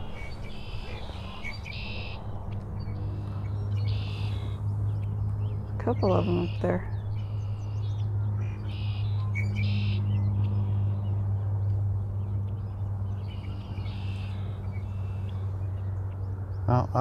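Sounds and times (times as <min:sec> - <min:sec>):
songbirds calling: 0:00.0 - 0:17.0
steady low hum: 0:00.0 - 0:17.0.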